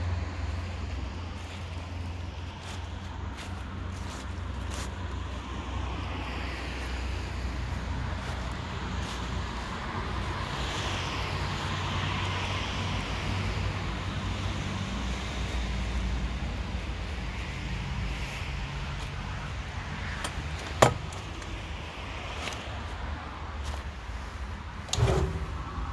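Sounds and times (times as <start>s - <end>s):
car tyre noise passing: 0.0s - 25.9s
low rumble of traffic: 0.0s - 25.9s.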